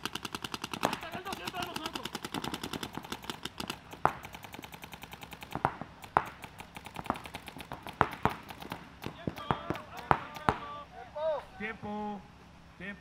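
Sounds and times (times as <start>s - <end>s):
loud sharp cracks: 0.0s - 10.8s
paintball markers firing: 0.0s - 10.8s.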